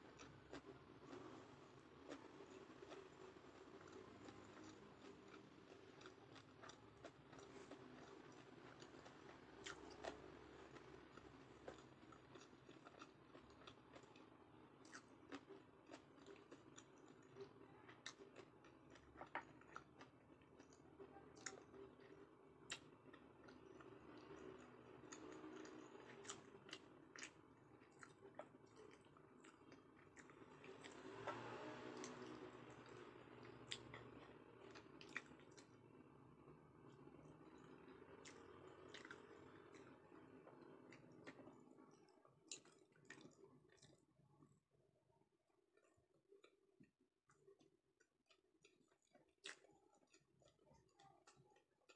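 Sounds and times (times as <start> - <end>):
close chewing with mouth clicks: 0.0 - 44.6, 45.7 - 51.9.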